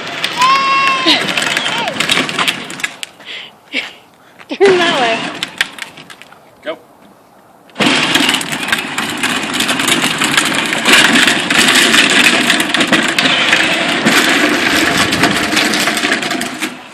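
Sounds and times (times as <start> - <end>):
toy car rattling: 0.0 - 3.2, 4.8 - 6.4, 7.8 - 16.9.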